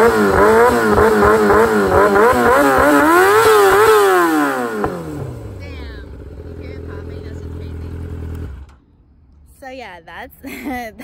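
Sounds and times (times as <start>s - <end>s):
motorcycle engine revving: 0.0s - 8.9s.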